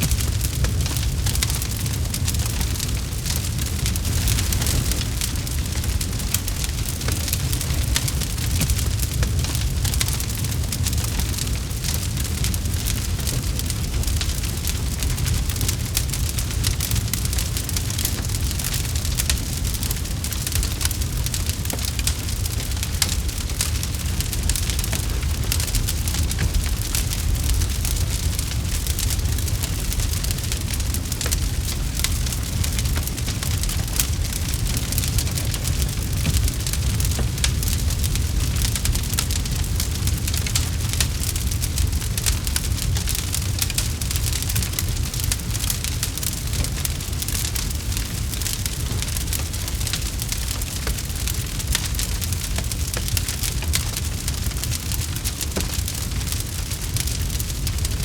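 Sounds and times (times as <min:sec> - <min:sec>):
campfire crackling and popping: 0:00.0 - 0:58.0
low rumble of flames: 0:00.0 - 0:58.0.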